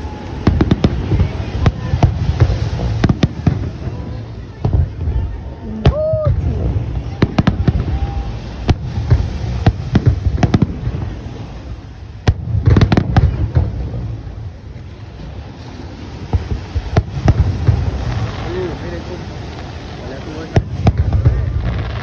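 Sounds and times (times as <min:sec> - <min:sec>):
fireworks bangs: 0:00.0 - 0:22.0
low rumble: 0:00.0 - 0:22.0.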